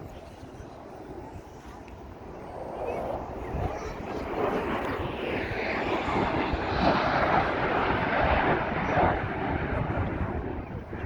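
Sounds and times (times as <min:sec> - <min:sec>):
airplane flying past: 0:00.0 - 0:11.0.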